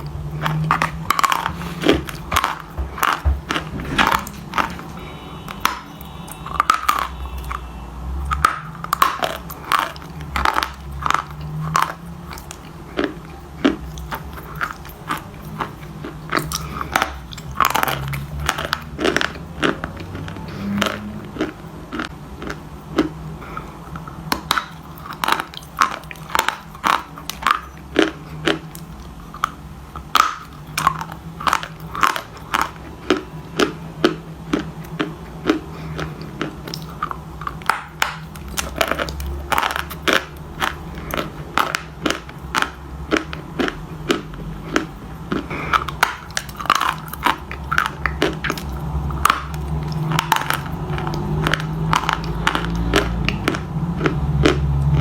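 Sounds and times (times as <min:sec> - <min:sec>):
person chewing something crunchy: 0:00.0 - 0:55.0
steady low hum: 0:00.0 - 0:55.0.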